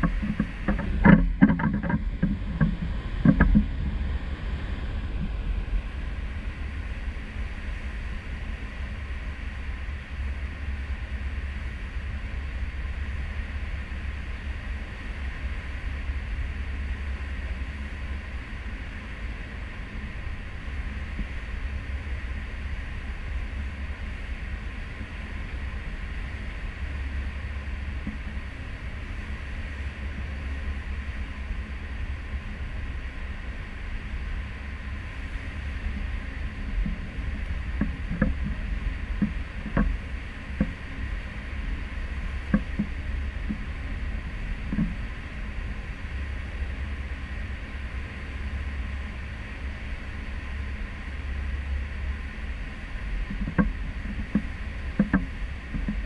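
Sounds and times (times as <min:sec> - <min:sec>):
ship engine rumble: 0:00.0 - 0:56.0.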